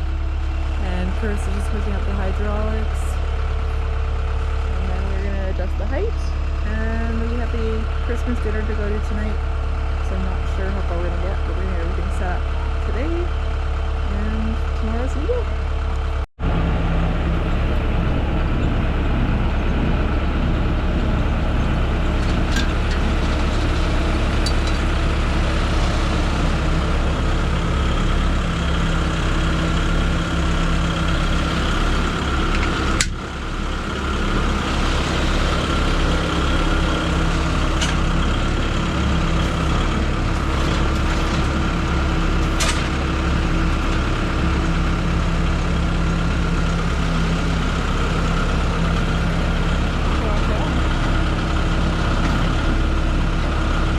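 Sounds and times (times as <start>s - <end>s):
engine idling with low hum: 0.0s - 53.9s.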